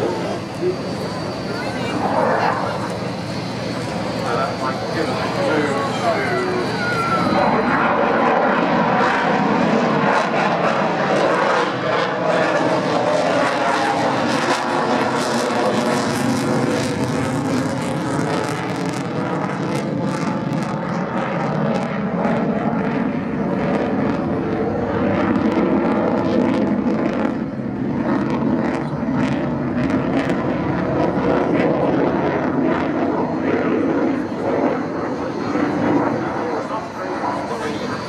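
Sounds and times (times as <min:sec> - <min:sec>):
jet flying overhead: 0:00.0 - 0:38.0.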